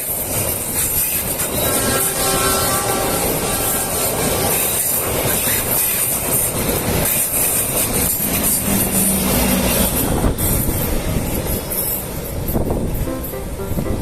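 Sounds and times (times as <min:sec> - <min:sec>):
train wheels clattering on rails: 0:00.0 - 0:13.0
train passing: 0:00.0 - 0:14.0.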